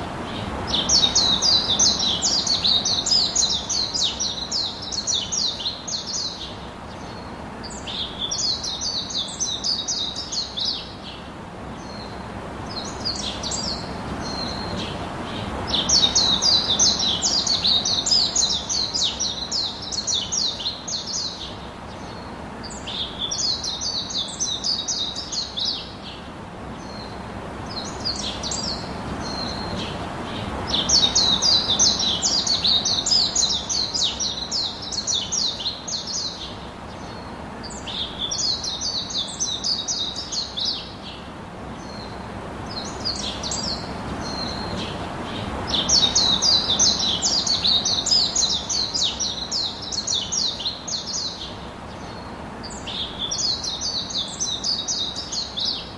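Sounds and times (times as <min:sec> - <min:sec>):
steady background hiss: 0:00.0 - 0:55.9
songbird chirping: 0:00.2 - 0:55.9.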